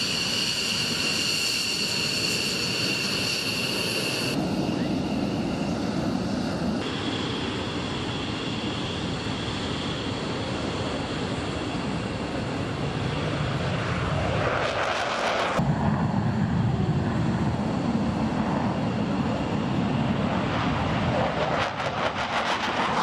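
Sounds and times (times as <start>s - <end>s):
jet engine low rumble: 0.0s - 23.0s
jet engines whining: 0.0s - 23.0s.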